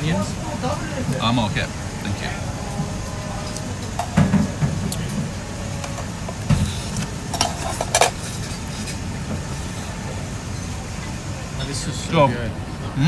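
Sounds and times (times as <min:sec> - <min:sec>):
restaurant background noise: 0:00.0 - 0:13.0.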